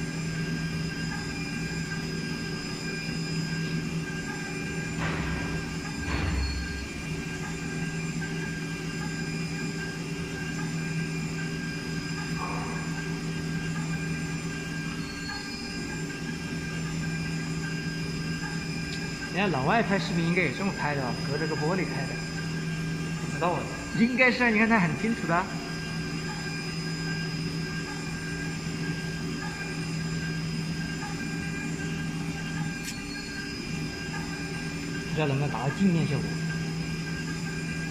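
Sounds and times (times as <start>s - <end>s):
milling machine hum: 0.0s - 37.9s.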